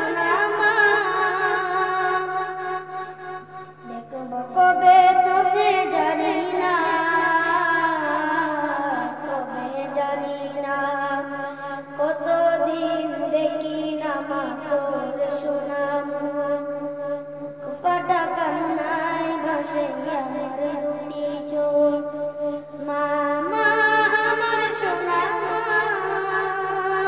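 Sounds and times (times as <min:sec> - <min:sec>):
boy singing unaccompanied: 0:00.0 - 0:27.0
steady low hum: 0:00.0 - 0:27.0.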